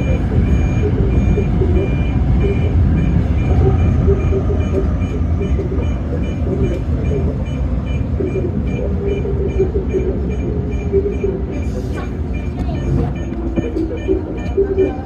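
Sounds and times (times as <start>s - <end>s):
electric train rumbling: 0.0s - 15.0s
high two-tone beep: 0.0s - 15.0s.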